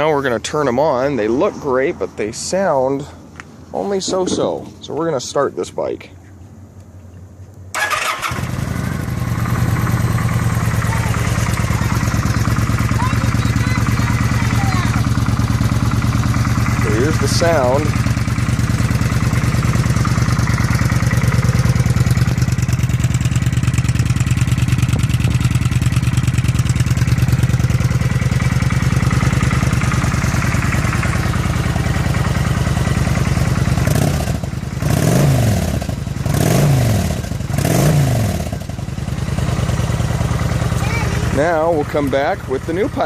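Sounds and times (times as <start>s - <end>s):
motorcycle engine idling and revving: 0.0s - 5.3s, 6.6s - 43.0s.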